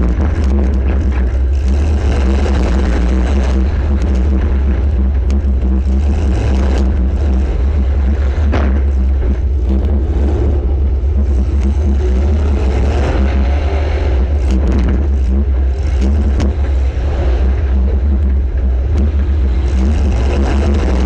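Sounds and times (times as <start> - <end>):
car engines revving loudly: 0.0 - 21.0.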